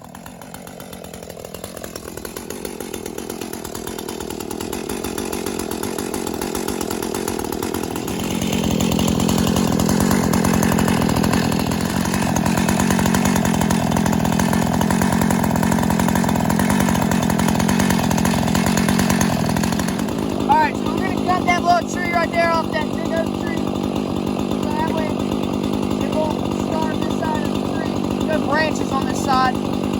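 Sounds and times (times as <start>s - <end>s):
chainsaw engine running: 0.0s - 29.9s.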